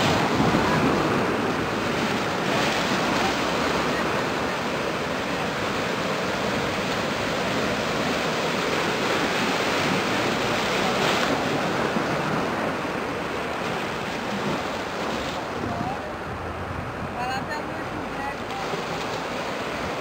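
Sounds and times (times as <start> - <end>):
waves washing ashore: 0.0 - 20.0.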